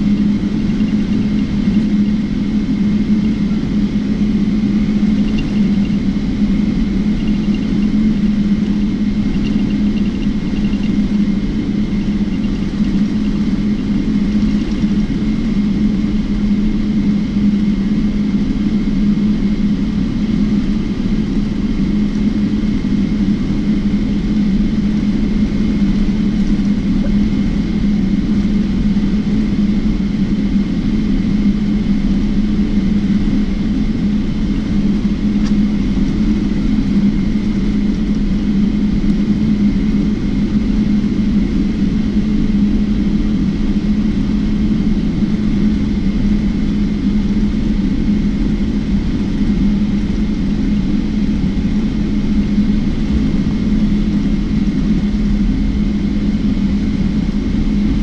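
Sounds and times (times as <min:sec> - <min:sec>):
faint engine whine: 0:00.0 - 0:58.0
low cabin drone: 0:00.0 - 0:58.0.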